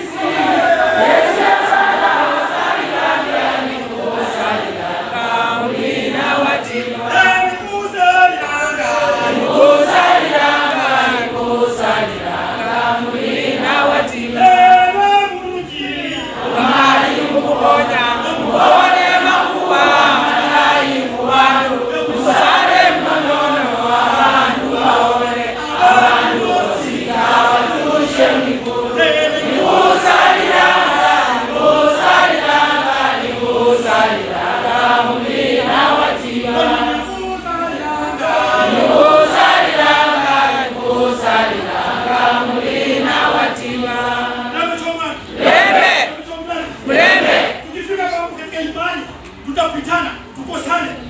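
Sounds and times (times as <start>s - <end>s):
choir singing: 0.0s - 14.8s, 15.6s - 46.1s, 46.8s - 47.6s.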